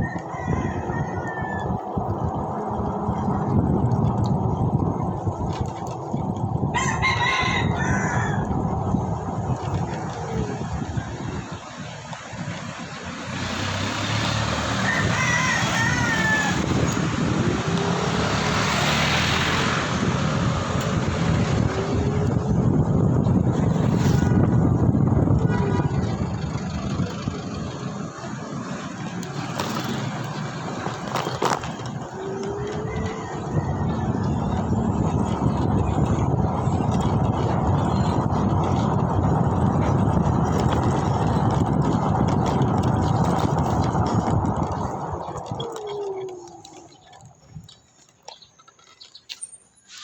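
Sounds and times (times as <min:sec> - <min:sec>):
wind buffeting microphone: 0:00.0 - 0:49.1
traffic rumble: 0:00.0 - 0:50.0.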